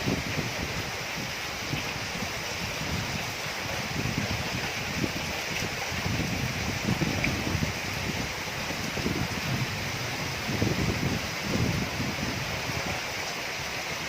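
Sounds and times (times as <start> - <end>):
rain hissing: 0.0 - 14.0
wind buffeting microphone: 0.0 - 14.0.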